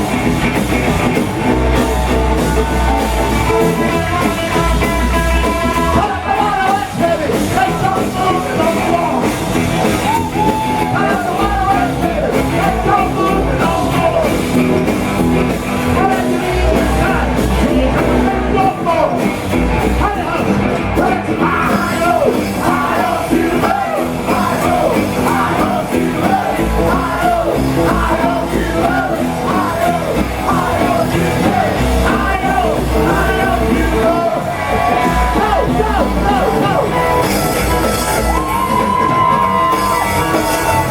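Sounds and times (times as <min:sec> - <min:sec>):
rock band playing live: 0:00.0 - 0:40.9
person yelling singing: 0:01.4 - 0:14.5, 0:15.8 - 0:40.9.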